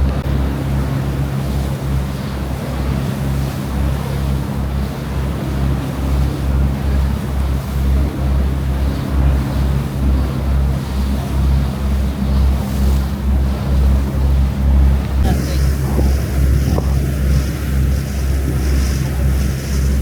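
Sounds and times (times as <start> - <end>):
ferry engines droning: 0.0 - 20.0
rushing sea water: 0.0 - 20.0
wind: 0.0 - 20.0.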